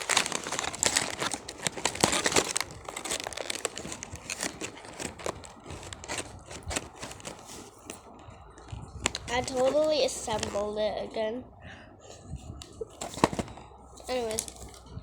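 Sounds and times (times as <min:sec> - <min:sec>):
plastic packaging crinkling: 0:00.0 - 0:10.9, 0:12.9 - 0:14.8.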